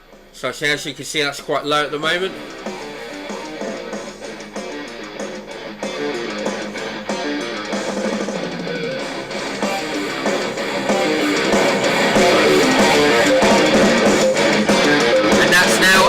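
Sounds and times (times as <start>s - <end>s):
guitar music through speaker: 1.7s - 16.0s.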